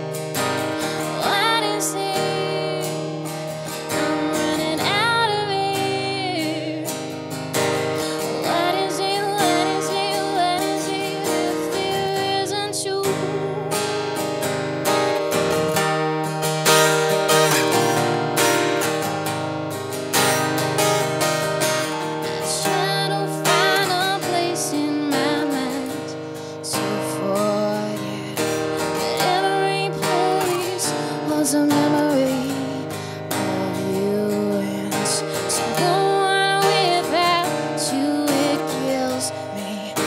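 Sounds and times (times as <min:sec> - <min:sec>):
woman singing: 0:00.0 - 0:15.3, 0:21.6 - 0:40.0
acoustic guitar strumming: 0:00.0 - 0:40.0.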